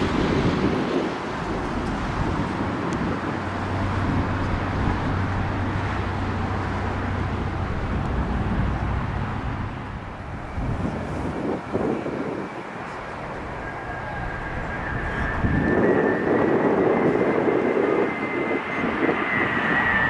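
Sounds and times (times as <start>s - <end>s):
jet engine rushing: 0.0s - 20.0s
wind noise on microphone: 0.0s - 20.0s.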